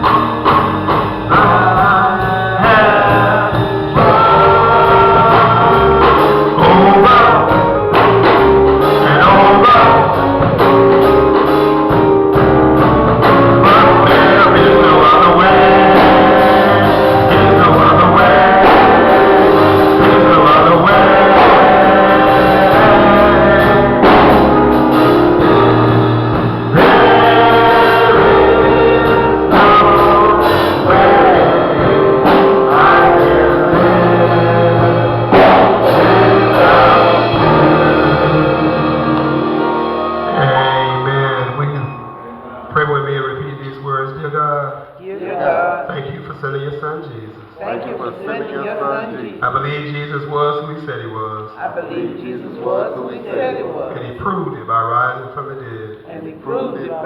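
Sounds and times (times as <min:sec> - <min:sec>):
instrumental backing with bass: 0:00.0 - 0:46.5
voices singing gospel: 0:00.0 - 0:57.0.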